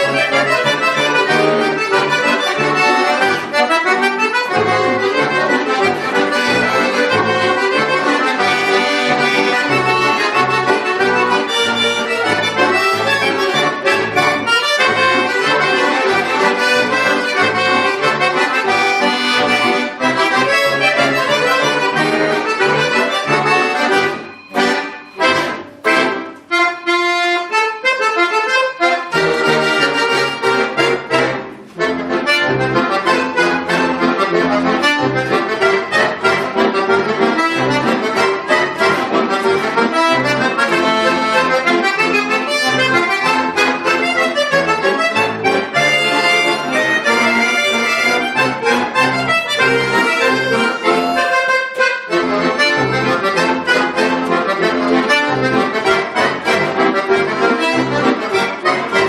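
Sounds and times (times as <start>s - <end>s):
button accordion playing chords: 0.0s - 59.0s.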